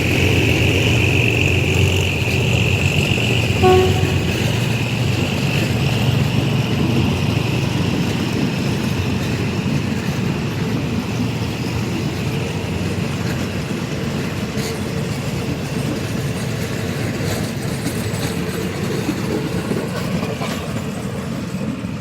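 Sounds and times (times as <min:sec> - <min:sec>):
train rumbling on rails: 0:00.0 - 0:22.0
wheels clicking over rail joints: 0:04.3 - 0:21.9.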